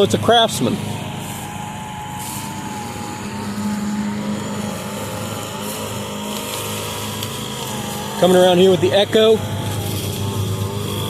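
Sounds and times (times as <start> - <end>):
riding mower engine: 0.0 - 11.0
string trimmer running: 0.0 - 11.0.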